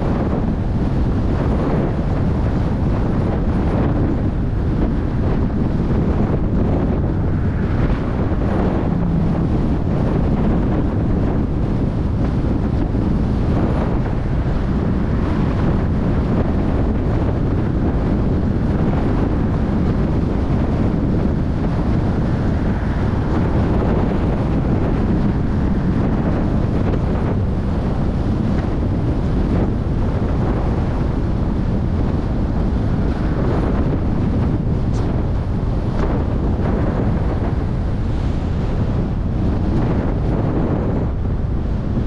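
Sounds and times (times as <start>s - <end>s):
car road and tyre noise: 0.0s - 42.0s
wind rushing over microphone: 0.0s - 42.0s.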